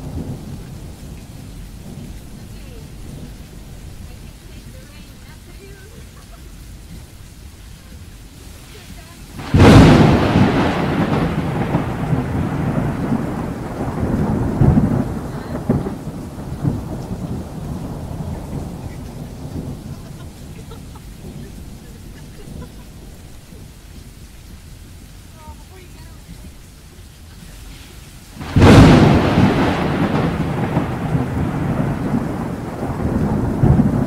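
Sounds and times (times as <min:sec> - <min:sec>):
thunder crack and rumble: 0:00.0 - 0:06.2, 0:08.9 - 0:24.6, 0:28.4 - 0:34.0
rain heard from inside a car: 0:00.0 - 0:34.0.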